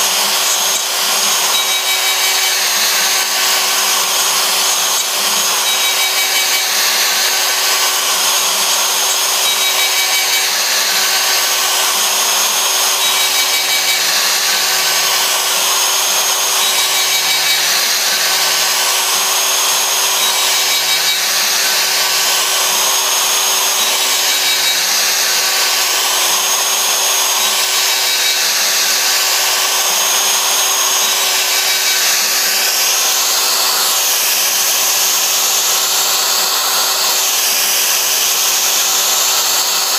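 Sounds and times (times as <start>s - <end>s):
router bit cutting plywood: 0.0s - 39.9s
router spindle whine: 0.0s - 39.9s.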